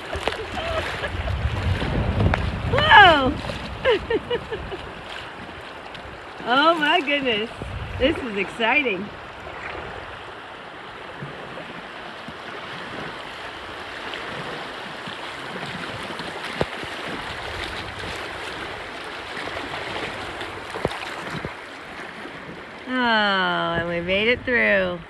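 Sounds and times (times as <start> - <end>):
river water rushing: 0.0 - 23.3.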